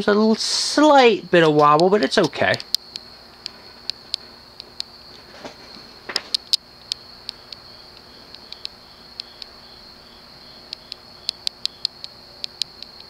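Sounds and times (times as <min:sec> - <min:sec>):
sharp fan ticks: 0:00.0 - 0:05.2, 0:06.1 - 0:13.0
ceiling fan motor whine: 0:00.0 - 0:13.0.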